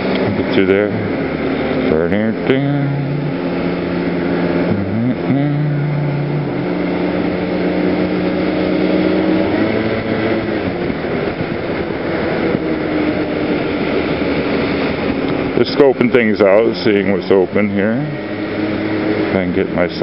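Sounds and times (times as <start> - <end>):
constant rushing noise: 0.0 - 20.0
motor scooter engine running: 0.0 - 20.0.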